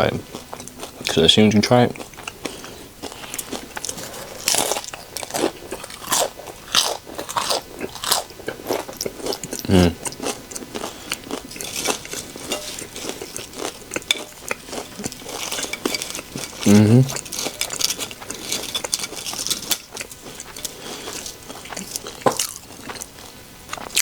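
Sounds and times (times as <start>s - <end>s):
crunching and chewing chips: 0.0s - 24.0s.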